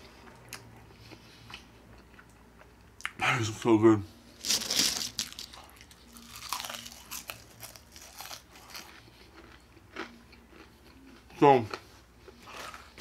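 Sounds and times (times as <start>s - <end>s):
crunching and chewing fries: 0.1s - 3.2s, 4.3s - 13.0s.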